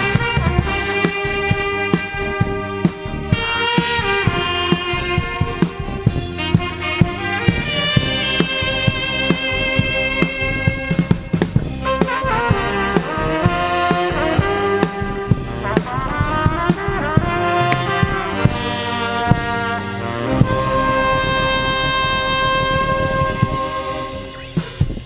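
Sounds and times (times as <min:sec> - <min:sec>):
brass melody with bending notes: 0:00.0 - 0:25.0
steady drum beat: 0:00.0 - 0:25.0.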